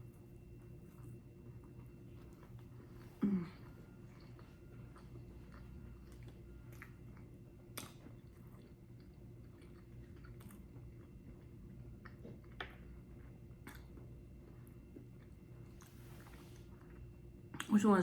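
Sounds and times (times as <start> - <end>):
faint chewing of food: 0.1 - 17.7.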